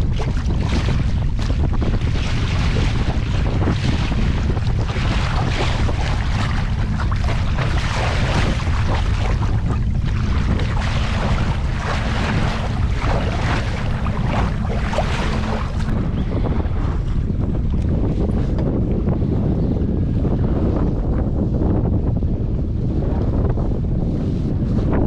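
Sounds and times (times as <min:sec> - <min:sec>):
boat engine rumble: 0:00.0 - 0:25.0
water splashing along hull: 0:00.0 - 0:25.0
wind buffeting microphone: 0:00.0 - 0:25.0.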